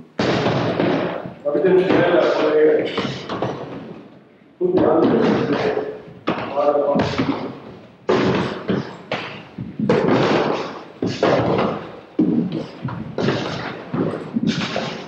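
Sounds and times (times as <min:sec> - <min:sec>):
kicks and punches on heavy bags: 0:00.2 - 0:03.7, 0:04.8 - 0:15.0.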